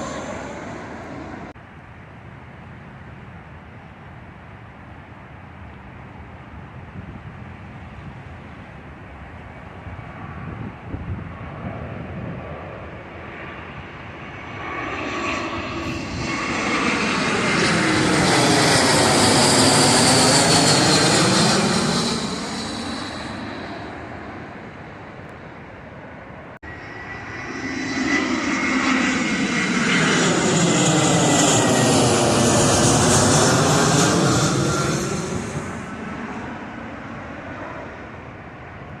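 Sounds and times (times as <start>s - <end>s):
jet airliners flying overhead: 0.0s - 39.0s.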